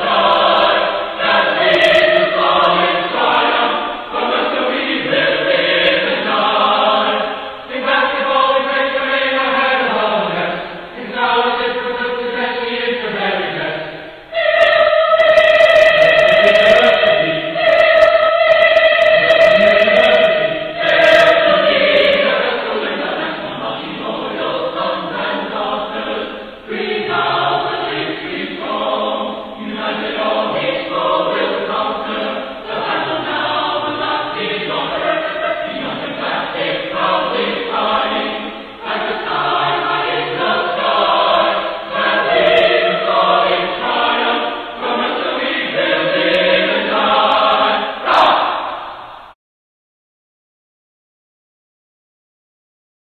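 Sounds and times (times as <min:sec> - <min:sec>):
choir singing sustained chords: 0:00.0 - 0:49.4.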